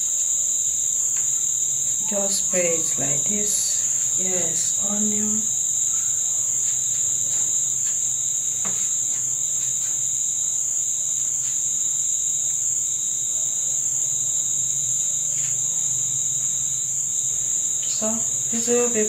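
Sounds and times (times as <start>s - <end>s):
crickets singing: 0.0s - 19.0s.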